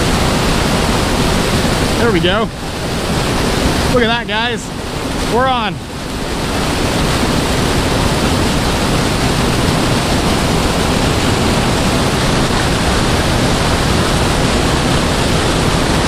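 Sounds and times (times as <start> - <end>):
white water rushing: 0.0 - 16.0.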